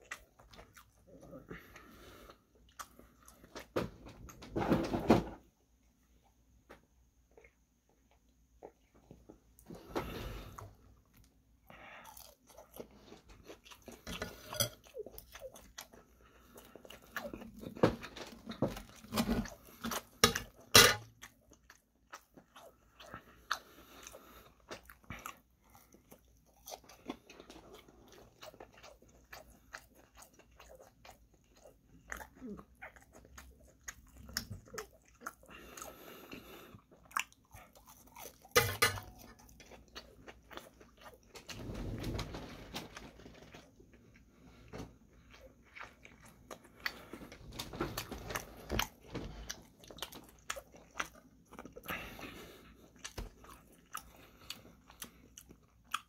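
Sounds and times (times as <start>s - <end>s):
wet chewing: 0.0s - 4.4s, 7.2s - 41.6s, 42.9s - 56.0s.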